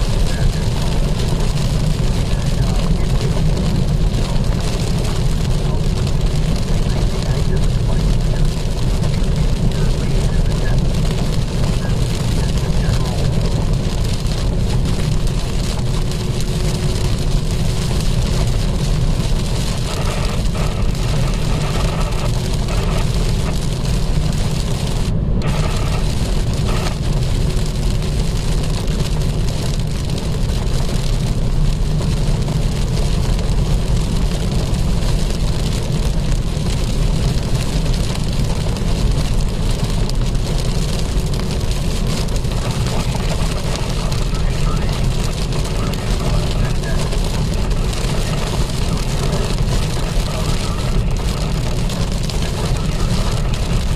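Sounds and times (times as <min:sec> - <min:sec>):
heavy rain on a vehicle: 0:00.0 - 0:53.9
road and engine rumble: 0:00.0 - 0:53.9.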